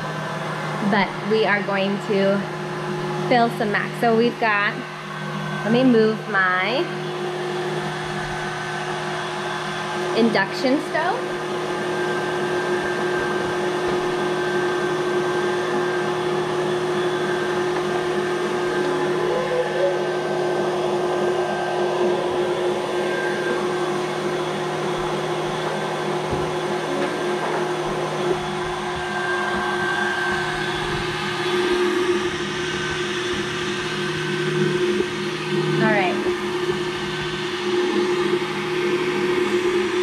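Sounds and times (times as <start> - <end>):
electric stand mixer running: 0.0 - 40.0.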